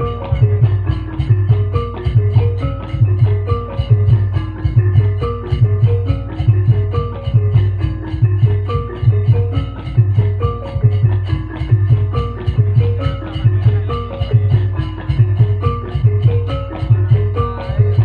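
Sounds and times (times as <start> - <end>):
low drum pulse: 0.0 - 18.0
struck keyed instruments: 0.0 - 18.0.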